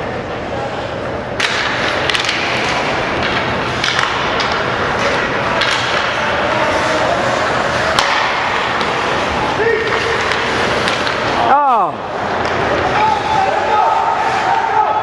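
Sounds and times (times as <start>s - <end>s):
sticks and puck clacking: 0.1s - 15.0s
skate blades scraping ice: 1.7s - 15.0s.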